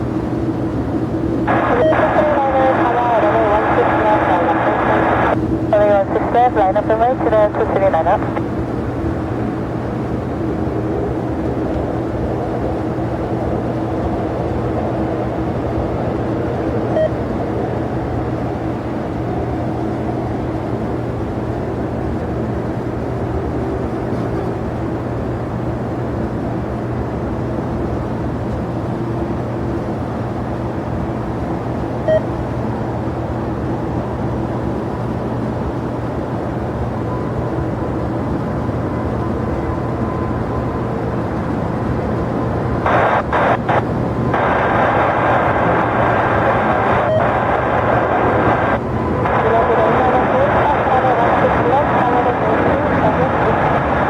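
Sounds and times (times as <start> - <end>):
jet engines droning: 0.0 - 54.0.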